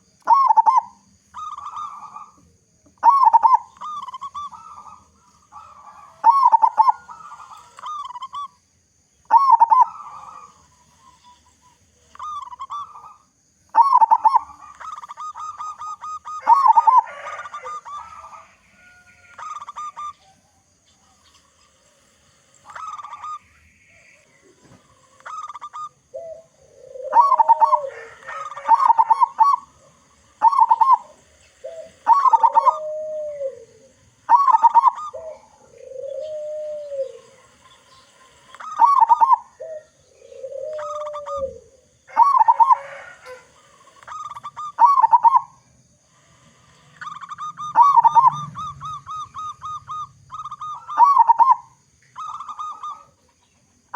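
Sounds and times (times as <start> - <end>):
lower-pitched arching coo: 0.0 - 8.6, 9.2 - 53.4
dove cooing trilled phrases: 0.0 - 53.9.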